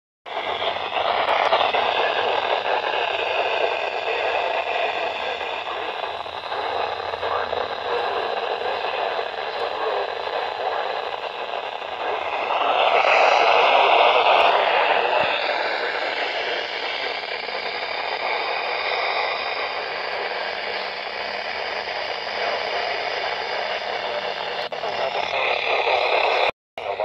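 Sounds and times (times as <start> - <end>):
radio static hiss: 0.3 - 27.0.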